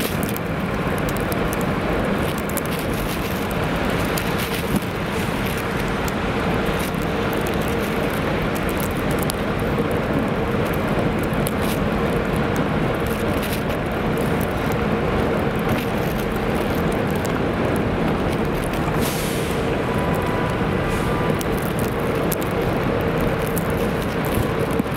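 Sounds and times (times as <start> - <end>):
cars passing on wet pavement: 0.0 - 24.9.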